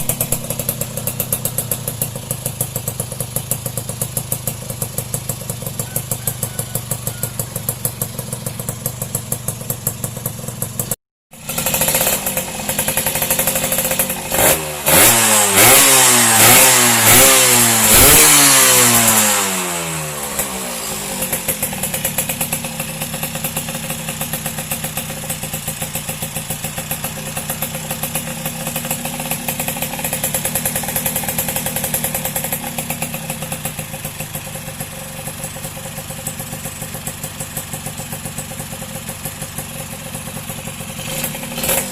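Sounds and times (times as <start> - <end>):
two-stroke motorcycle engine idling: 0.0 - 41.9.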